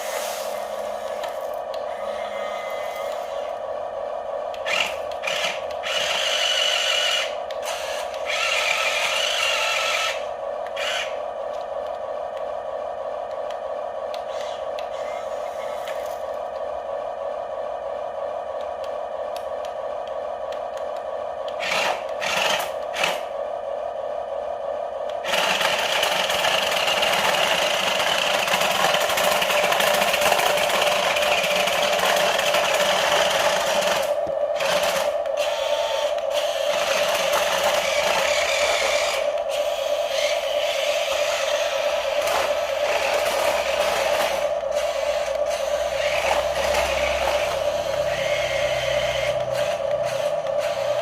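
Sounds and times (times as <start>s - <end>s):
small electric motors whining: 0.0s - 3.6s, 4.5s - 11.7s, 14.1s - 16.6s, 21.5s - 23.3s, 25.1s - 51.0s.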